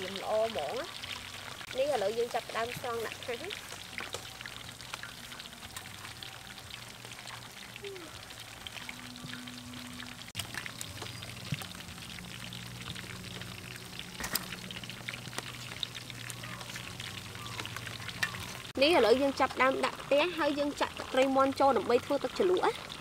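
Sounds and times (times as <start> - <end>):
oil sizzling and crackling: 0.0 - 23.0.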